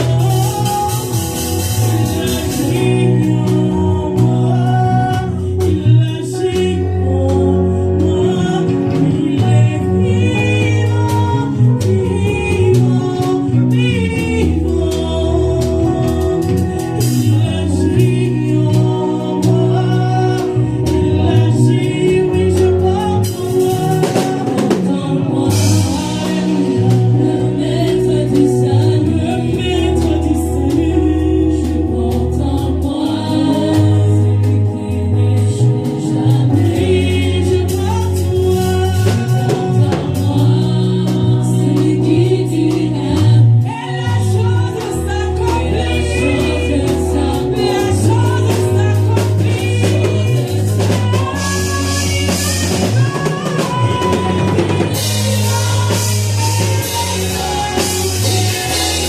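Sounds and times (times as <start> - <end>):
bass: 0.0 - 59.0
choir singing: 0.0 - 59.0
drum kit: 0.0 - 59.0.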